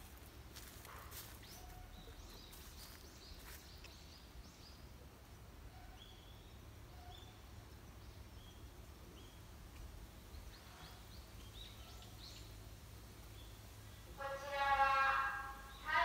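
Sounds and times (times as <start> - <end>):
faint birdsong chirps: 0.0 - 16.0
low steady background rumble: 0.0 - 16.0.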